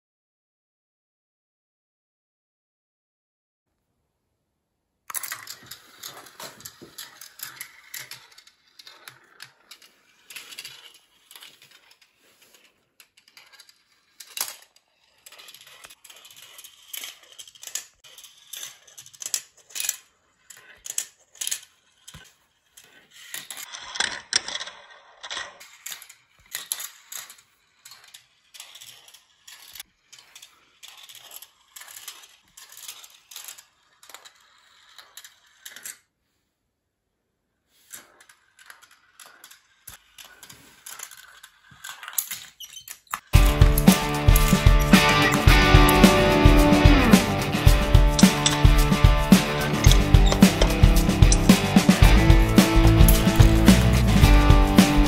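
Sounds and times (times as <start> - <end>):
marbles rolling and clacking: 5.1 - 36.1, 37.8 - 55.0.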